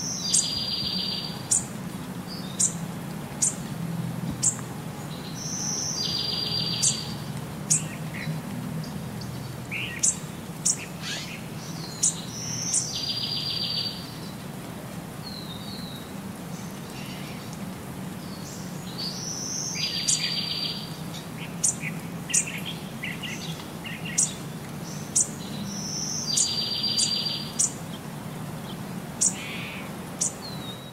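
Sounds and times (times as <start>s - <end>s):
bird chirps and ticks: 0.2s - 3.7s, 4.3s - 14.5s, 15.3s - 28.0s.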